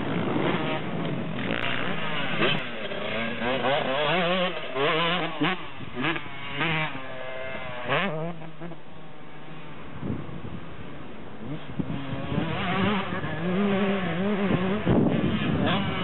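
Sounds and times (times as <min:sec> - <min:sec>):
dirt bike engine revving: 0:00.0 - 0:09.8, 0:11.4 - 0:16.0.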